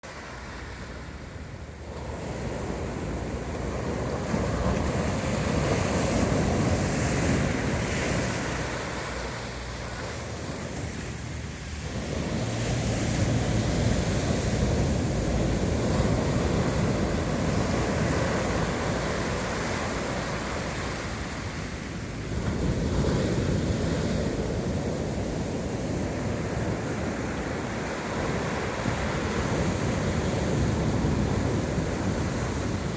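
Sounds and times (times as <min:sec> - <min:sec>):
sea waves breaking on shore: 0:00.0 - 0:32.9
wind on microphone: 0:00.0 - 0:32.9.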